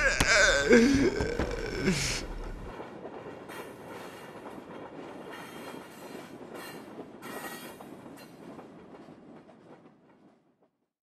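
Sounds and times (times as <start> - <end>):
subway train rumbling on rails: 0.0 - 10.9.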